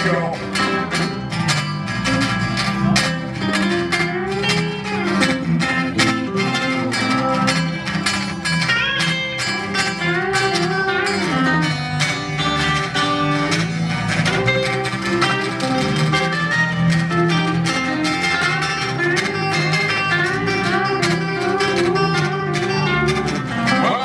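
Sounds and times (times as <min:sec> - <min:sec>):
bass line: 0:00.0 - 0:24.0
guitars: 0:00.0 - 0:24.0
sliding lead notes: 0:00.0 - 0:24.0.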